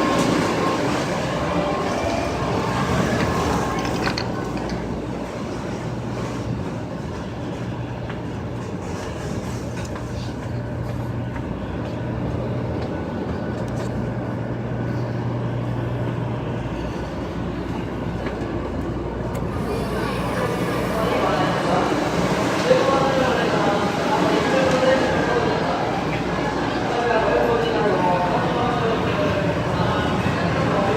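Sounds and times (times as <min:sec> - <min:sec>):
train and platform noise: 0:00.0 - 0:30.9.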